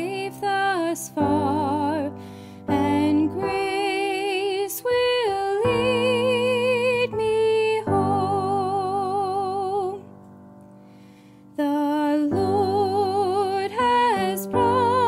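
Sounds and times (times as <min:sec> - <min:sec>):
slow tender background music: 0:00.0 - 0:15.0.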